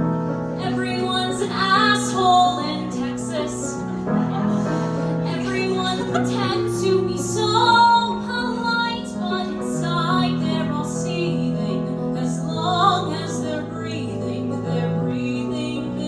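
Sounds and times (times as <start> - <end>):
piano accompaniment: 0.0 - 16.0
woman singing: 0.6 - 16.0.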